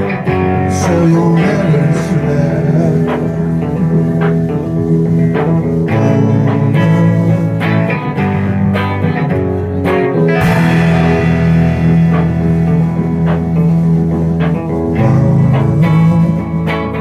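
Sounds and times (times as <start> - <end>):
bass line: 0.0 - 17.0
plucked guitar: 0.0 - 17.0.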